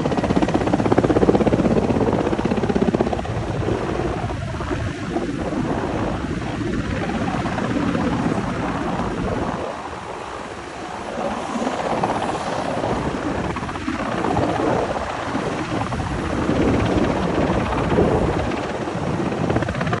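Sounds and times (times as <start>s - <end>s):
helicopter rotor chop: 0.0s - 20.0s.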